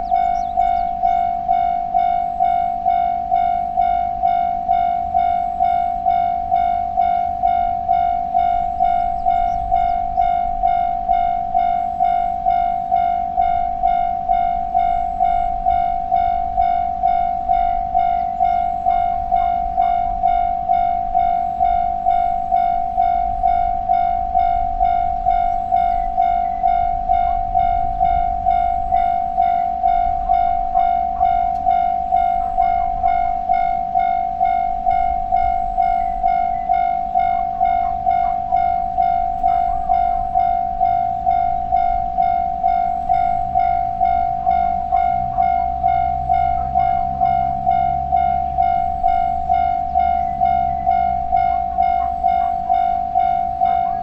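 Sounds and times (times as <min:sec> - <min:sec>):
low rumble: 0:00.0 - 0:53.9
level crossing warning bell: 0:00.0 - 0:54.0.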